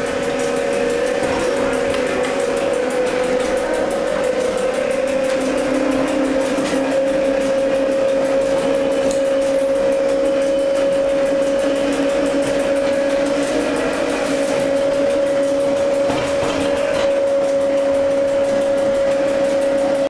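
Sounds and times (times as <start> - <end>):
electric motor whine: 0.0 - 20.0
wheels rattling on track: 0.0 - 20.0.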